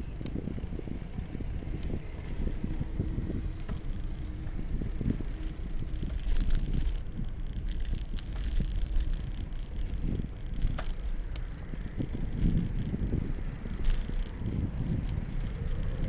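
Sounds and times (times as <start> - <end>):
light clicks and rattles: 0.0 - 16.0
wind buffeting microphone: 0.0 - 16.0.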